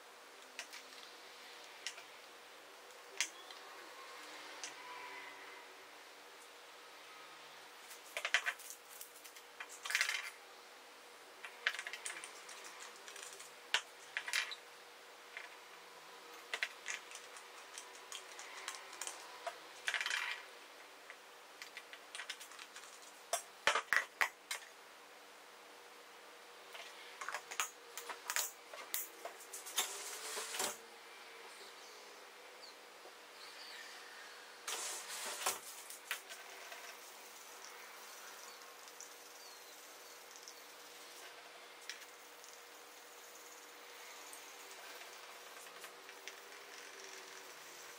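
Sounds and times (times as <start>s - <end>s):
faint steady hum: 0.0s - 47.9s.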